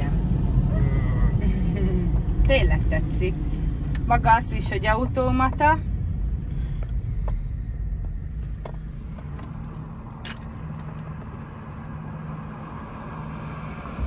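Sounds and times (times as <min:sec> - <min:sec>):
low engine hum: 0:00.0 - 0:14.0
road rumble: 0:00.0 - 0:14.0.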